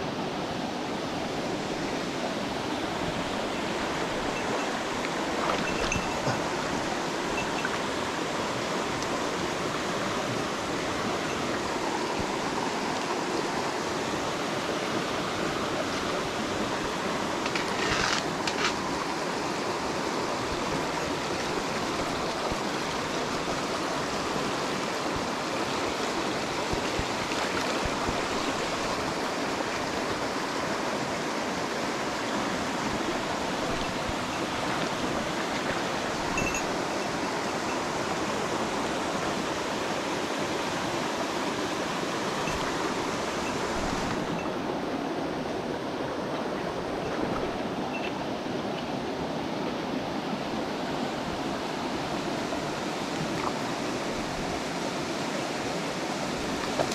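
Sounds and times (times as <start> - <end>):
mountain stream rushing: 0.0 - 56.9.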